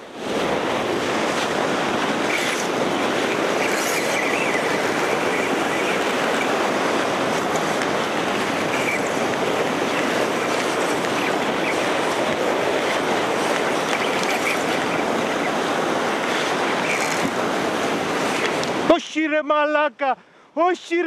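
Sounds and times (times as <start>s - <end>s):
surf breaking over rocks: 0.0s - 19.0s.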